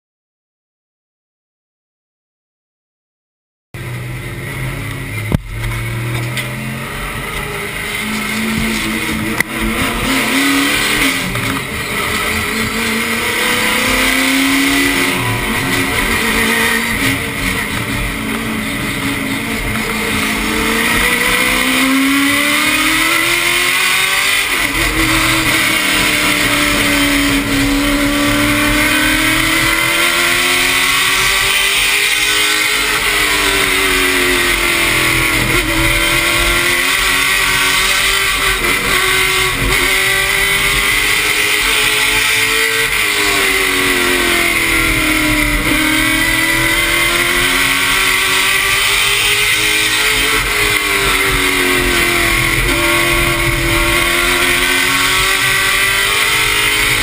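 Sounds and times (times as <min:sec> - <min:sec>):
race car engine revving: 0:03.8 - 0:57.0.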